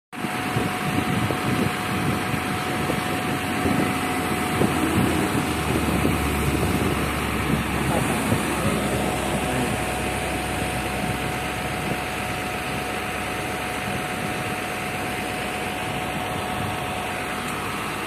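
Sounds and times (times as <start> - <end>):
diesel engine idling: 0.2 - 18.0
thin steady hydraulic whine: 0.7 - 18.0.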